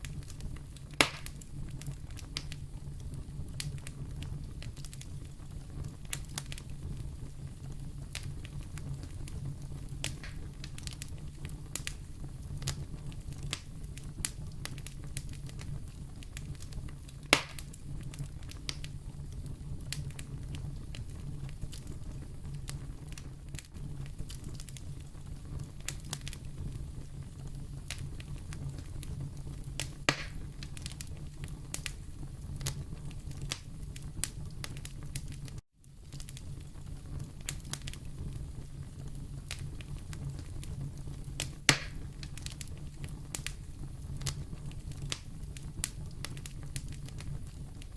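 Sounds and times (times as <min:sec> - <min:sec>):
loud fire pops: 0:00.0 - 0:47.9
wood fire burning in fireplace: 0:00.0 - 0:47.9.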